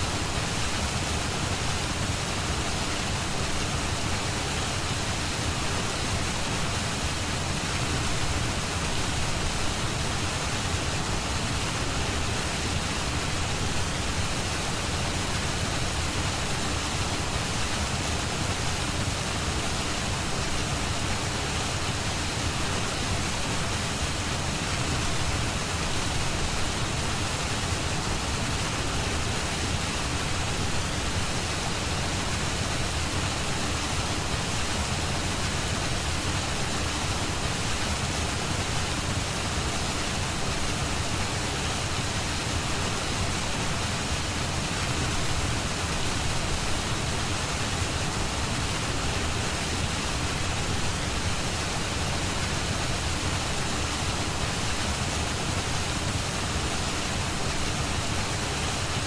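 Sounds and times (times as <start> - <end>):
steady broadband hiss: 0.0 - 59.0.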